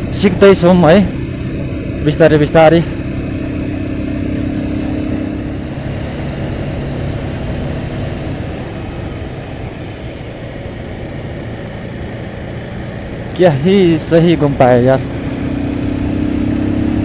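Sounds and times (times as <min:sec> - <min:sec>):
motorcycle engine hum: 0:00.0 - 0:17.0
wind and road noise: 0:00.0 - 0:17.0.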